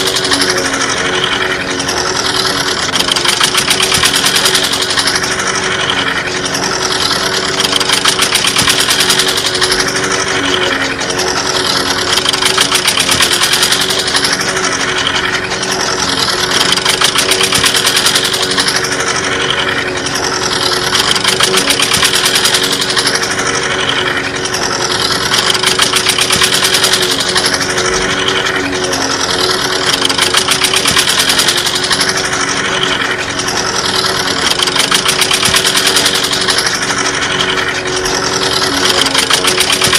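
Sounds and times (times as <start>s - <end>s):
small engine knocking chug: 0.0s - 39.9s.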